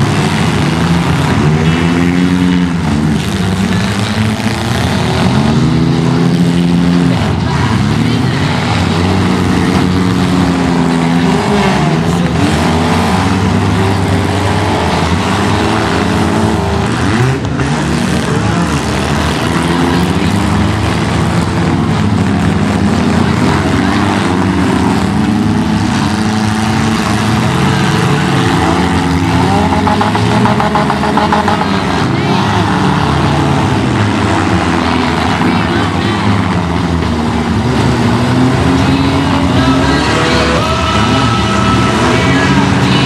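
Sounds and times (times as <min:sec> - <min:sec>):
car engines revving: 0:00.0 - 0:43.0.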